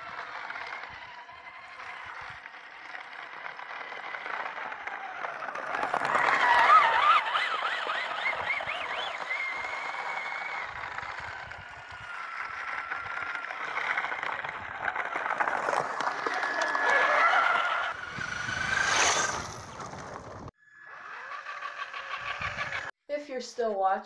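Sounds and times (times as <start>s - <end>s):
electric motor whining: 0.0s - 22.9s.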